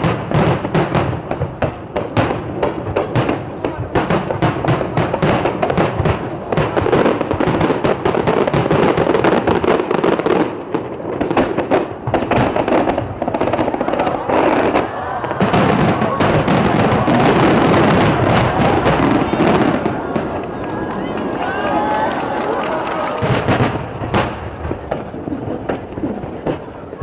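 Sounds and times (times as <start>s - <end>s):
firework shells bursting: 0.0s - 27.0s.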